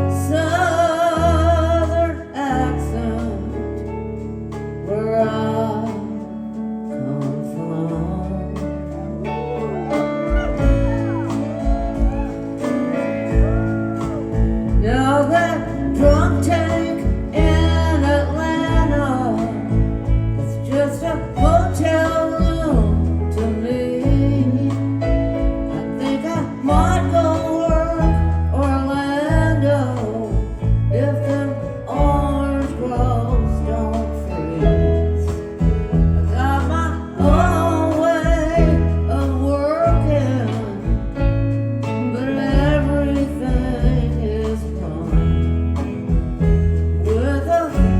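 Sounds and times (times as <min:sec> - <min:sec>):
person singing: 0:05.0 - 0:46.2
rock band playing: 0:08.6 - 0:47.9.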